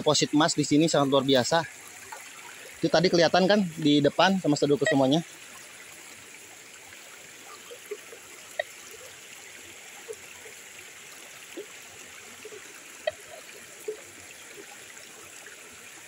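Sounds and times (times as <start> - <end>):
stream rushing: 0.0 - 16.0.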